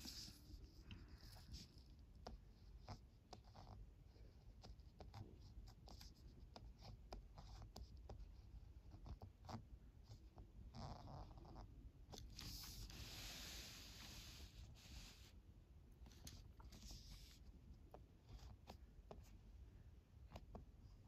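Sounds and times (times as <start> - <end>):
pen scratching on paper: 0.0 - 15.3, 16.0 - 19.4.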